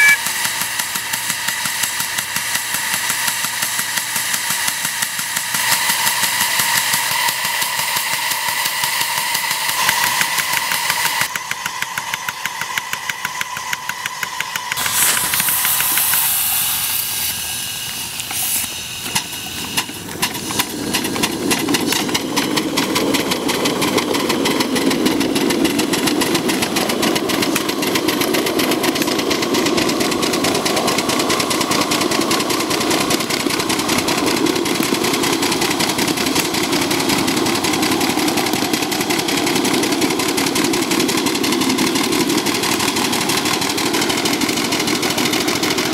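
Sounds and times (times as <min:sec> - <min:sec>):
steam hiss: 0:00.0 - 0:45.9
steam locomotive exhaust chuffs: 0:00.0 - 0:45.9.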